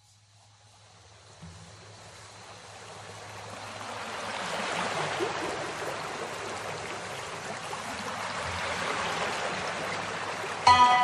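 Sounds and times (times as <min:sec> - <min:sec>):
running water rushing: 0:00.8 - 0:11.0.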